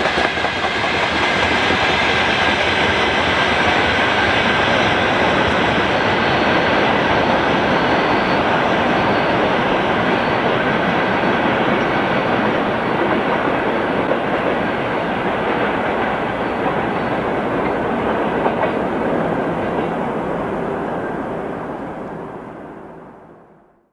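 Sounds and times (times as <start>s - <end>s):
freight train wheels on rails: 0.0s - 23.6s.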